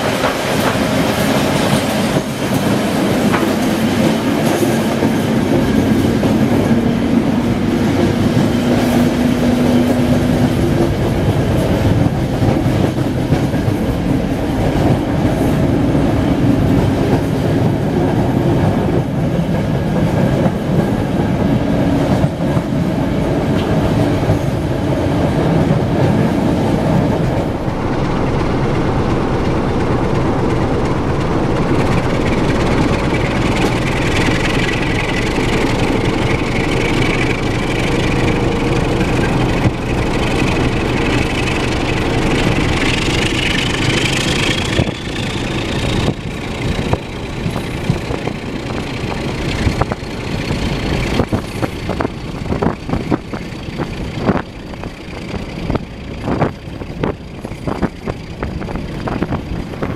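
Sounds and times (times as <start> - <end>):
diesel engine drone: 0.0 - 19.4, 20.7 - 59.9
wheels clattering over rail joints: 0.0 - 22.8, 25.7 - 59.9.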